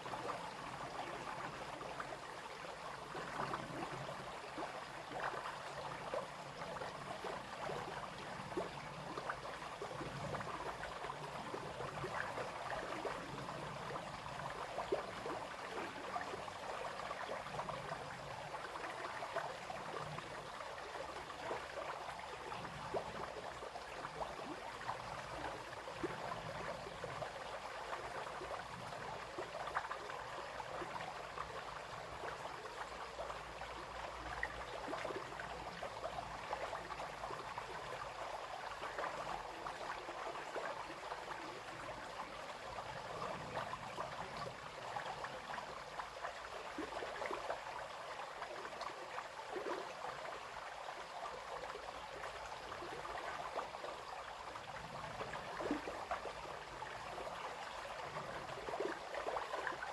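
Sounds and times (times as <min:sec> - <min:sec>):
brook babbling over stones: 0:00.0 - 0:59.9.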